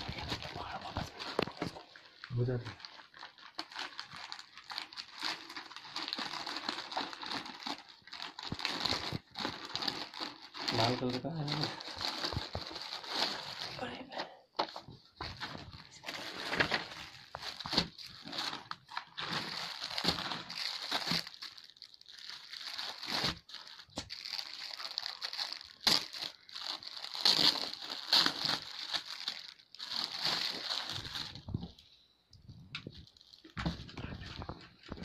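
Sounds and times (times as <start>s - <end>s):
plastic bag crinkling: 0.0s - 14.2s, 15.2s - 31.8s, 32.5s - 35.0s.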